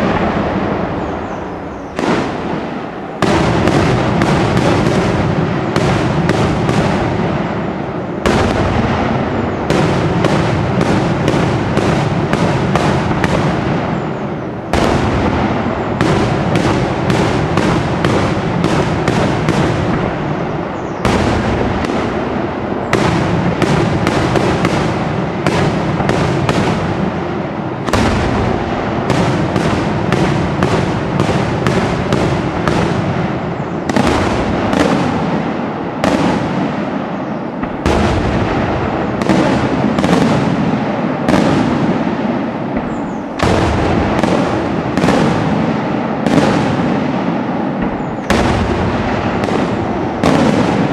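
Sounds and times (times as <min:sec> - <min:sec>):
fireworks bursting: 0:00.0 - 0:50.9.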